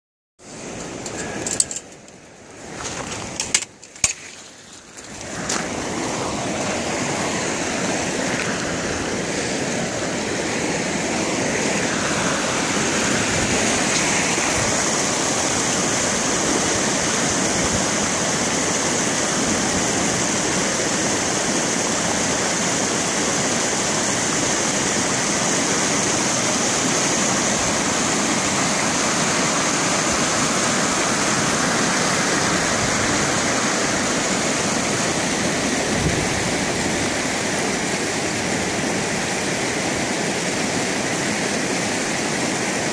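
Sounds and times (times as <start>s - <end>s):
floodwater rushing over gravel: 0.4s - 42.9s.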